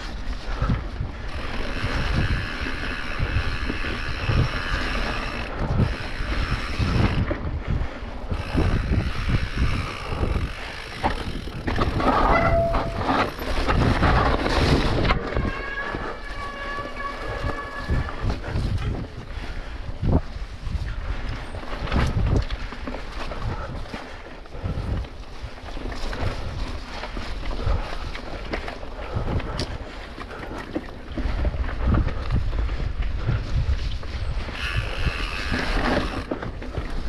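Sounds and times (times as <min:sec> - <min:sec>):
bike knocks and rattles: 0:00.0 - 0:19.3, 0:20.0 - 0:37.0
bike freehub buzz: 0:00.0 - 0:37.0
wind buffeting microphone: 0:00.0 - 0:37.0.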